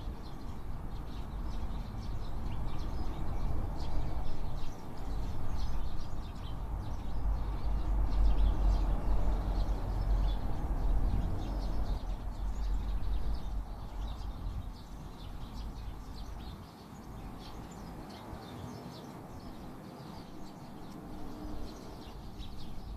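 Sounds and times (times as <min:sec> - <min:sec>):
sparrows chirping: 0:00.0 - 0:22.9.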